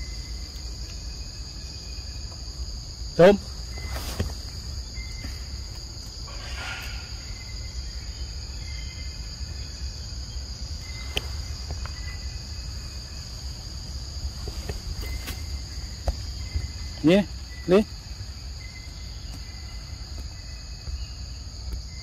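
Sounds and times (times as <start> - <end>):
forest insects droning: 0.0 - 22.0.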